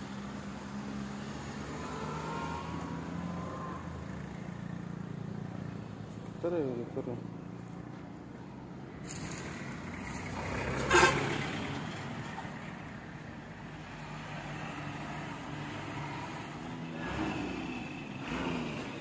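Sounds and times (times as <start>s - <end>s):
truck diesel engines running: 0.0s - 19.0s.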